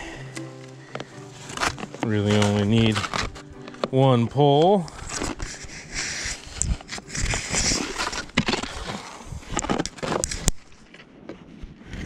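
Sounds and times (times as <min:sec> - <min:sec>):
jacket fabric rustling: 0:00.0 - 0:11.6
skis and boots crunching in snow: 0:00.0 - 0:12.0.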